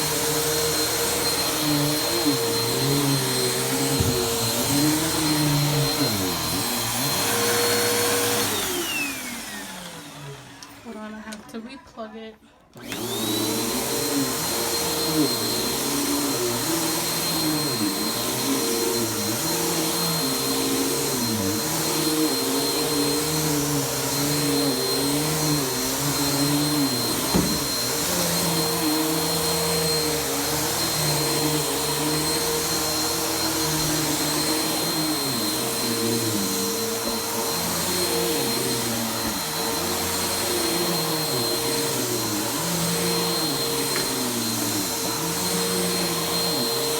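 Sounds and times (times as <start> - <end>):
vacuum cleaner running over carpet: 0.0 - 11.5, 12.8 - 46.9.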